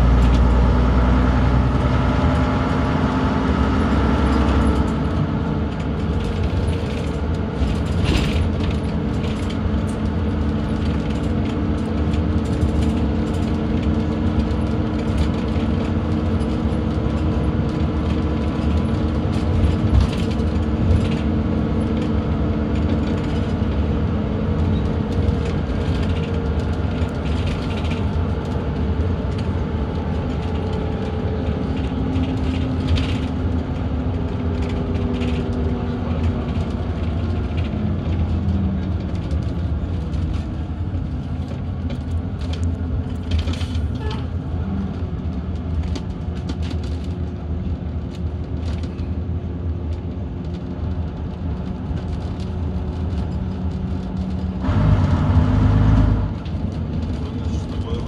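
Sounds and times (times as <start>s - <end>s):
bus body rattles: 0.0s - 58.0s
bus diesel engine running: 0.0s - 58.0s.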